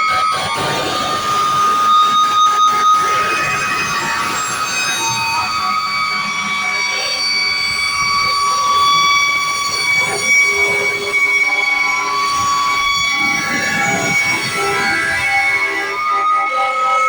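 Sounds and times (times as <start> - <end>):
fire truck sirens: 0.0 - 17.0.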